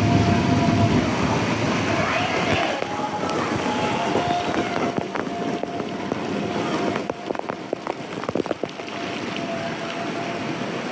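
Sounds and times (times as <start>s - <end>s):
water splashing: 0.0s - 10.9s.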